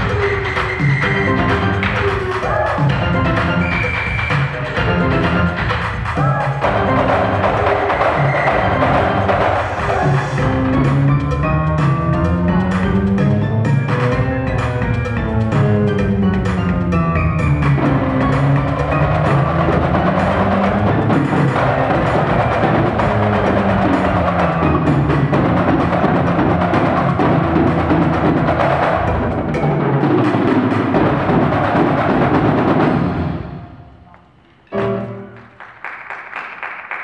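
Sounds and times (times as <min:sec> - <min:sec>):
percussion ensemble playing: 0:00.0 - 0:36.2.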